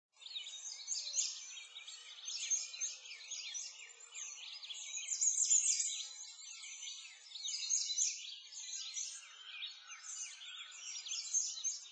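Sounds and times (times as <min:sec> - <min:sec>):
songbirds chirping and trilling: 0:00.2 - 0:11.9.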